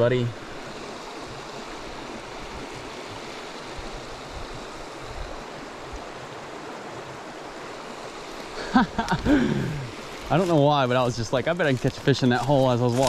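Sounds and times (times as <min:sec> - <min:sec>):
creek running over rocks: 0:00.0 - 0:13.0.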